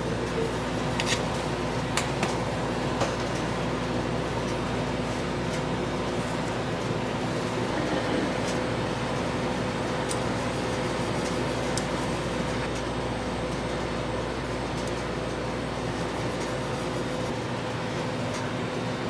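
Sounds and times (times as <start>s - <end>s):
shop machine hum: 0.0s - 19.0s.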